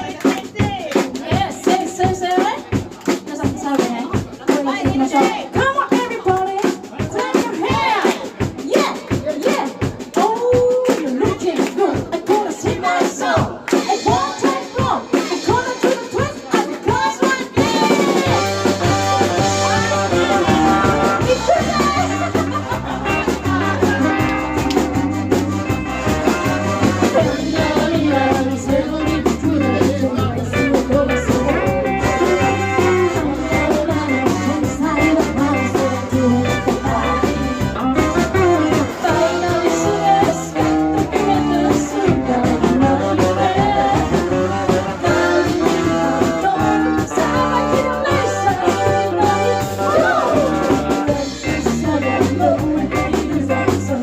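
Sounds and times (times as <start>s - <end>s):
live rock and roll band: 0.0s - 54.0s
person singing: 3.3s - 54.0s.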